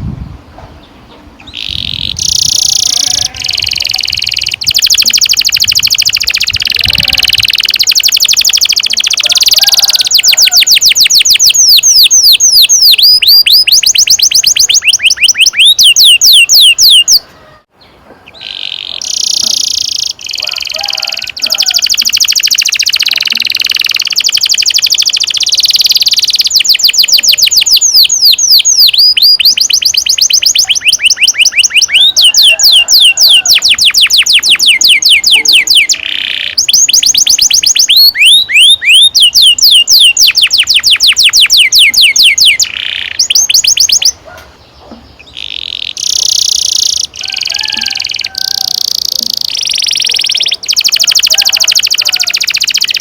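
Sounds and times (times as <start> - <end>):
canary singing trills: 0.8 - 53.0.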